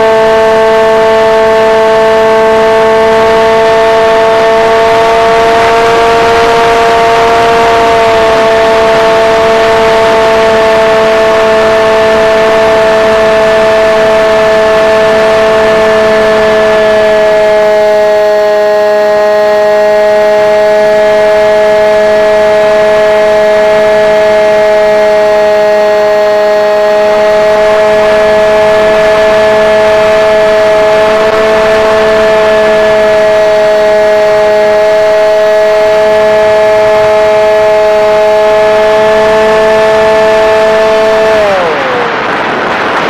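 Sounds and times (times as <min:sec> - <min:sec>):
model airplane motor whine: 0:00.0 - 0:43.0
rush of noise: 0:00.0 - 0:43.0.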